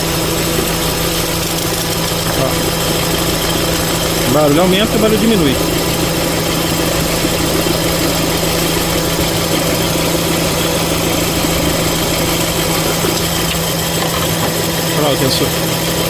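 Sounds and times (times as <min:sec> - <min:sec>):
accessory drive noise: 0:00.0 - 0:16.0
car engine idling: 0:00.0 - 0:16.0.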